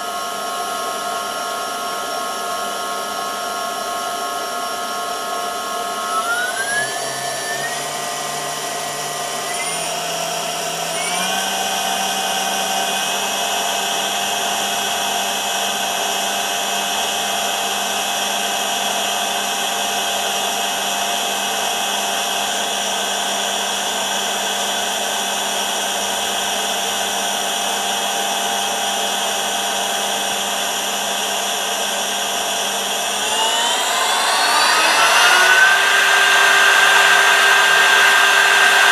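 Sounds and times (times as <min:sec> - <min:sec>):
spindle motor electric whine: 0:00.2 - 0:38.9.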